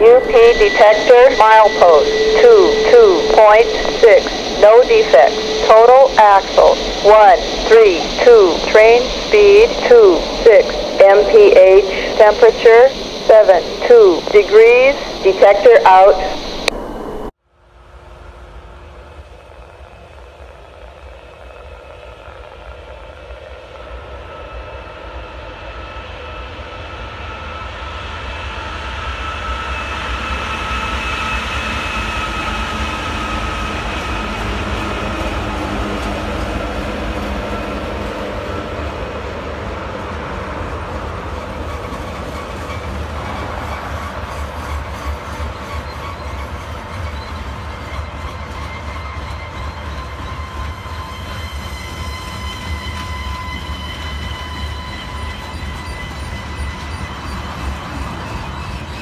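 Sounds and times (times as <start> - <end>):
diesel locomotives passing: 0.0 - 59.0.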